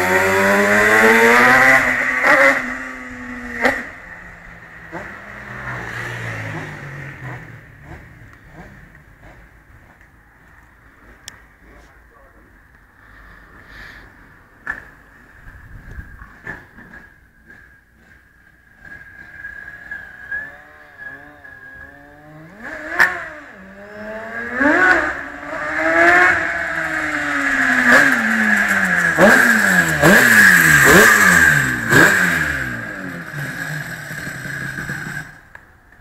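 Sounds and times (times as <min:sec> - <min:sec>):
racing motorcycle engine revving: 0:00.0 - 0:10.1, 0:16.2 - 0:36.0.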